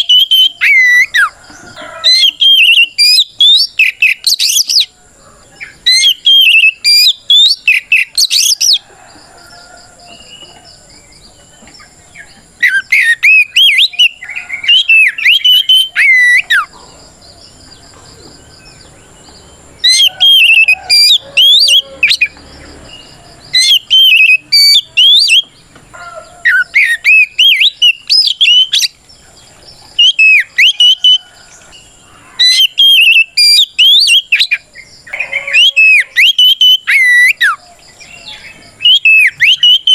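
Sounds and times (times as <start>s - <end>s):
magpie-robin singing whistled notes: 0.0s - 4.9s, 5.6s - 9.2s, 10.1s - 16.8s, 18.5s - 25.6s, 26.4s - 29.0s, 29.9s - 31.3s, 32.4s - 39.9s.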